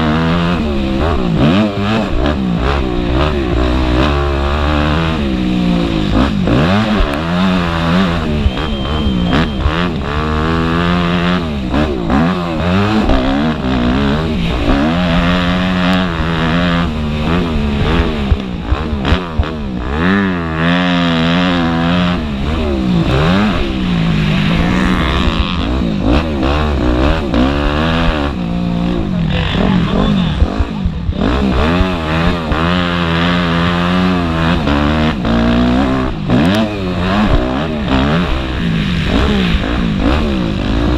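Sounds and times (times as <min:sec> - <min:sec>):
motocross engines revving: 0:00.0 - 0:40.9.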